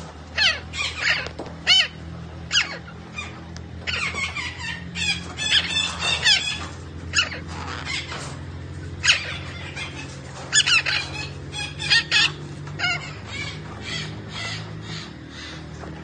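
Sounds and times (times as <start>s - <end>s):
parakeet harsh calls: 0.3s - 16.0s.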